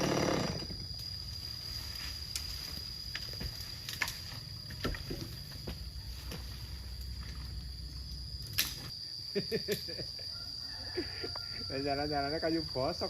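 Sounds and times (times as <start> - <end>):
insect calling high tone: 0.0 - 13.0.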